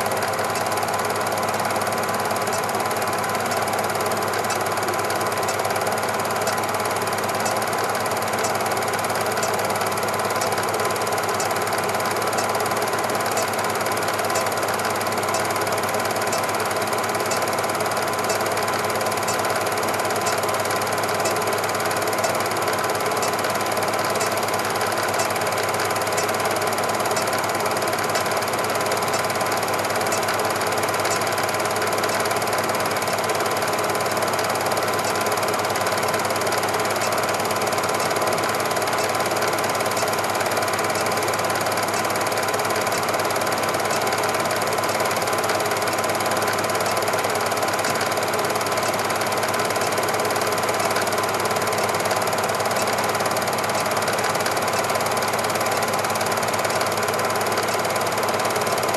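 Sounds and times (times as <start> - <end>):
film projector clattering: 0.0 - 58.9
projector whine: 0.0 - 58.9.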